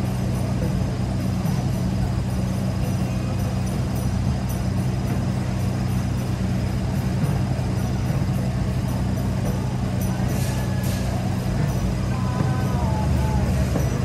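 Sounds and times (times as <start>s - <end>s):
city traffic hum: 0.0s - 14.0s.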